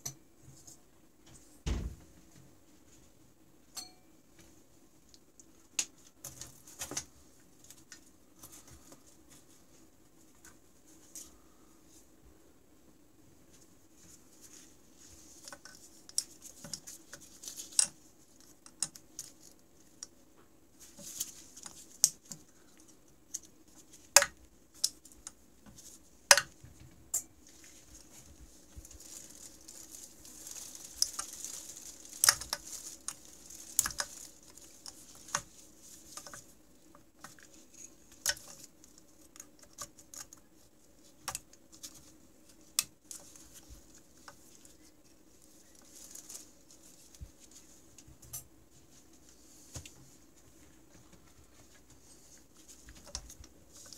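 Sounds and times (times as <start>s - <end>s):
faint steady hum: 0.0s - 53.9s
rustling handling noise: 4.2s - 12.5s, 13.2s - 53.9s.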